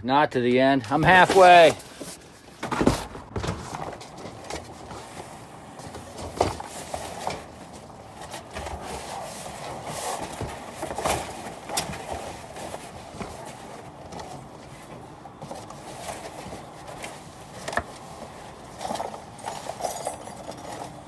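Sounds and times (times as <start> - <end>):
boxes and hardware shifting in dumpster: 0.3 - 21.0.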